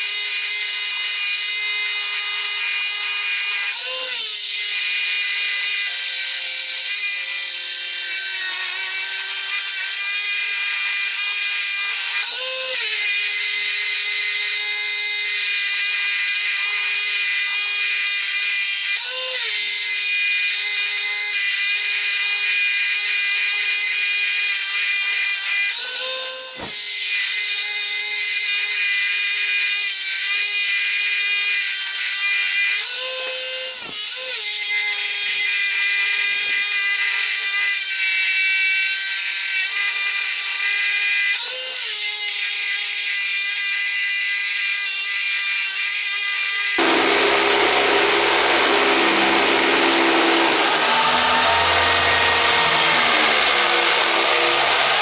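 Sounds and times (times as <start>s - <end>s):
electric power tool whining: 0.0s - 43.8s, 44.4s - 55.0s.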